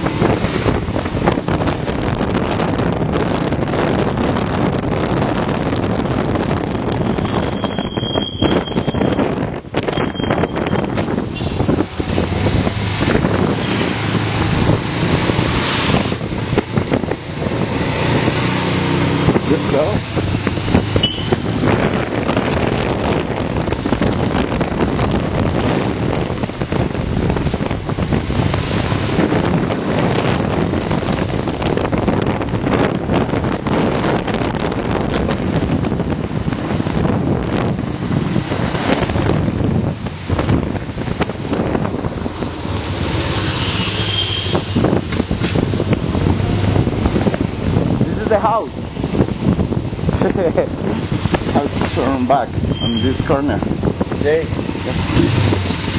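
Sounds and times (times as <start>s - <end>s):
motorcycle engine drone: 0.0s - 55.9s
wind rushing over microphone: 0.0s - 55.9s.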